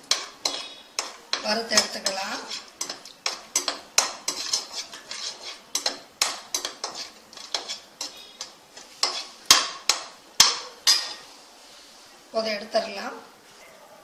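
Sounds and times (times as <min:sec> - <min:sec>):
metal spoon scraping a pan: 0:00.0 - 0:11.3
nuts frying in oil: 0:00.0 - 0:11.4.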